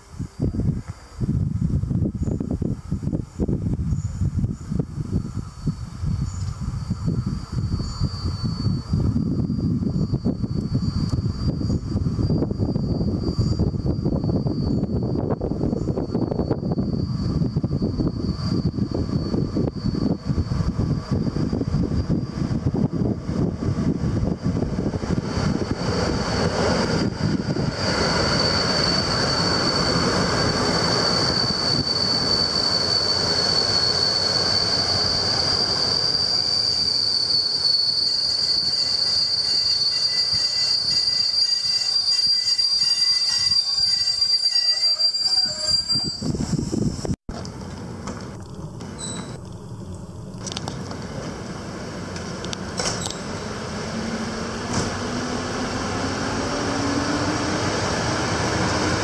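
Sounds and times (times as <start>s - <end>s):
train rumble: 0.0s - 59.0s
high-pitched wheel squeal: 3.3s - 23.4s, 25.2s - 47.2s, 48.8s - 50.3s, 52.8s - 59.0s.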